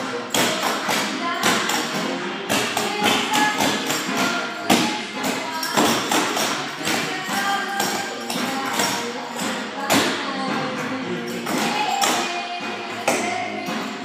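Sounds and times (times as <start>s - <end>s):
upbeat recorded song: 0.0s - 14.0s.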